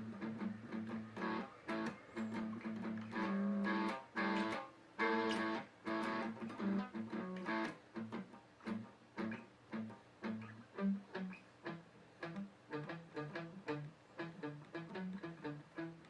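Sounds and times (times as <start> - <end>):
guitar chords strummed: 0.0 - 16.0
plucked guitar notes: 0.0 - 16.0.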